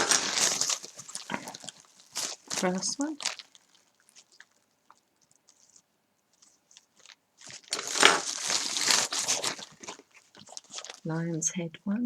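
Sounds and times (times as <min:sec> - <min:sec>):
plastic packet crinkling: 0:00.0 - 0:11.5.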